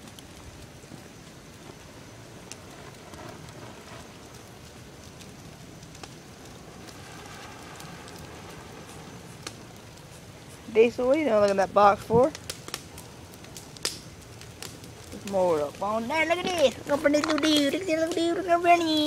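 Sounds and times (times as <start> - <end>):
fire crackling and popping: 0.0 - 19.0
hiss of flames: 0.0 - 19.0.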